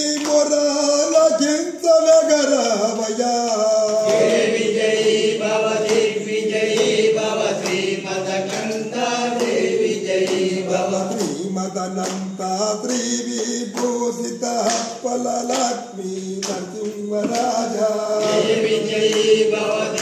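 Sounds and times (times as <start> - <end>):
sung mantra chanting: 0.0 - 20.0.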